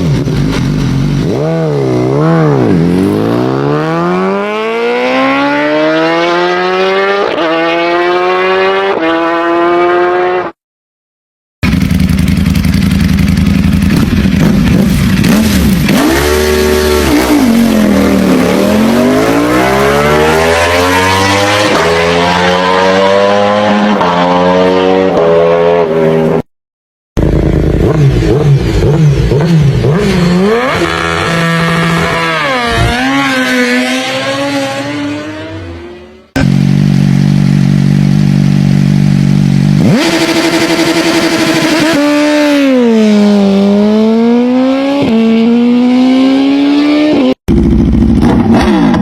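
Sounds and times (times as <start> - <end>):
motorbike engines revving: 0.0 - 10.6, 11.6 - 26.4, 27.2 - 49.0.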